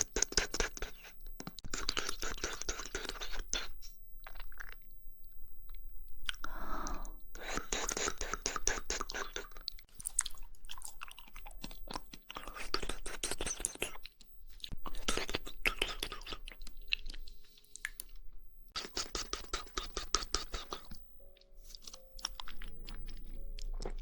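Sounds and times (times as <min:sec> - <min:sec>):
wet chewing and squelching: 0:00.0 - 0:04.9, 0:07.4 - 0:18.2, 0:18.8 - 0:21.0, 0:21.6 - 0:24.0.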